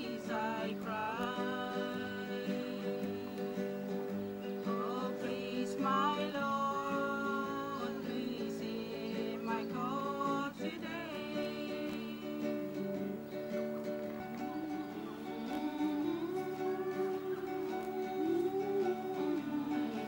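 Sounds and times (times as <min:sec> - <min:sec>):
acoustic guitar strummed: 0:00.0 - 0:20.0
voices singing long notes: 0:00.0 - 0:20.0.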